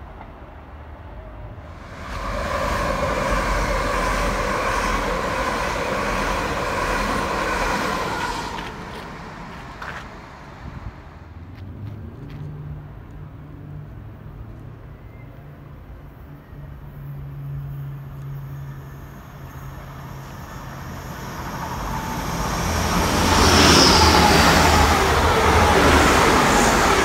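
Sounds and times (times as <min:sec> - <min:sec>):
train wheels rushing with whine: 0:00.0 - 0:12.4, 0:16.5 - 0:27.0.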